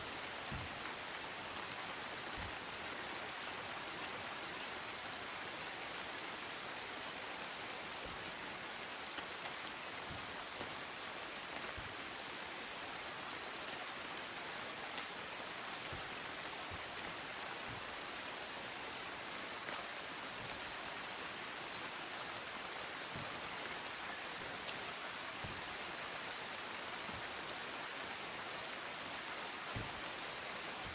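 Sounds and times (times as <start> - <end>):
heavy raindrops striking: 0.0 - 30.9
steady rain hiss: 0.0 - 30.9.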